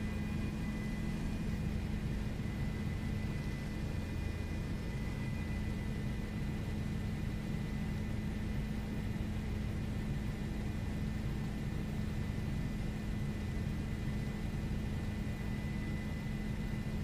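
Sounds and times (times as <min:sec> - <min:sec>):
helicopter droning in flight: 0:00.0 - 0:17.0.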